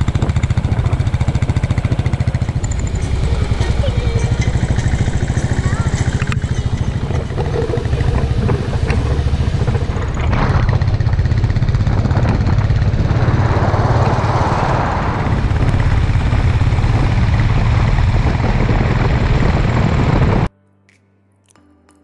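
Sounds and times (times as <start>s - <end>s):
motorcycle engine running: 0.0s - 20.5s
wind rush: 0.0s - 20.5s.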